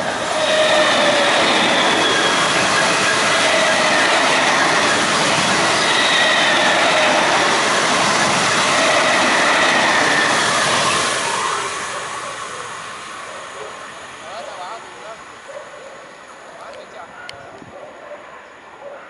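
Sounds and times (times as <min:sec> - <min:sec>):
train wheels rushing on rail: 0:00.0 - 0:17.8.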